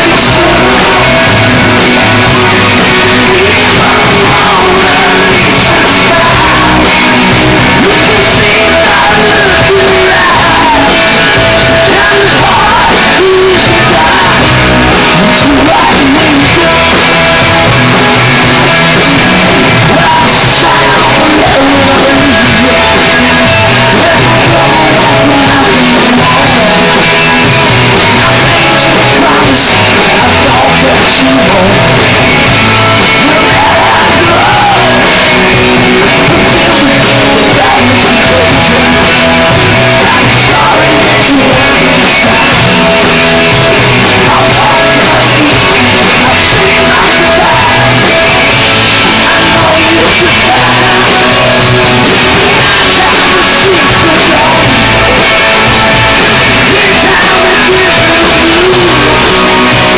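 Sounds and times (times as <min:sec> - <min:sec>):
drums: 0:00.0 - 0:59.9
electric guitars: 0:00.0 - 0:59.9
lead singer: 0:00.0 - 0:59.9.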